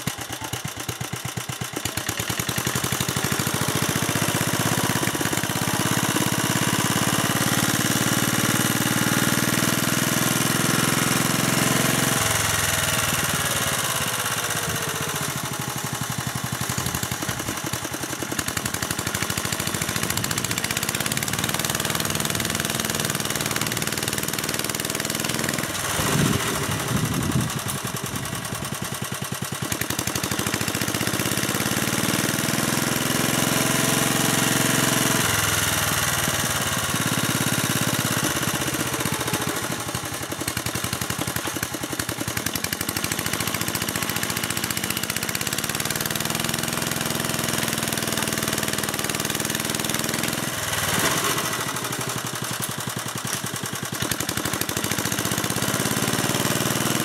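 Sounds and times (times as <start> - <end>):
tractor tiller engine churning soil: 0.0 - 57.0.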